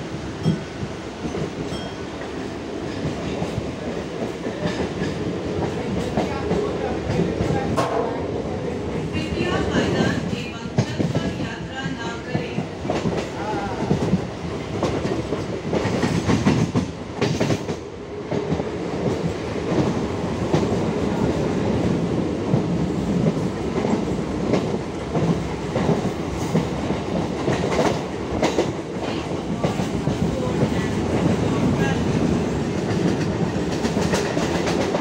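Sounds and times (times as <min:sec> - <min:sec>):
train rumbling along track: 0:00.0 - 0:35.0.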